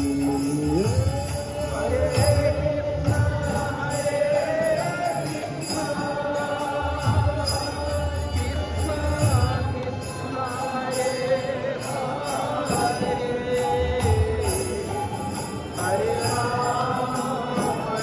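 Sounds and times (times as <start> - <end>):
hand cymbals struck in steady beat: 0.0 - 18.0
voices singing slow melody: 0.0 - 18.0.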